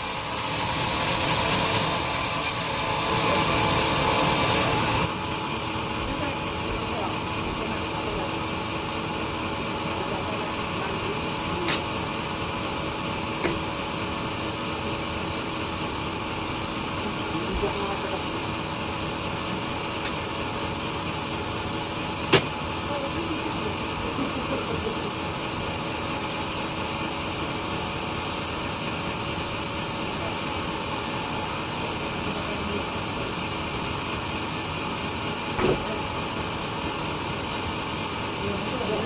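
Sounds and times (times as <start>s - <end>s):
sawmill machinery humming: 0.0s - 39.0s.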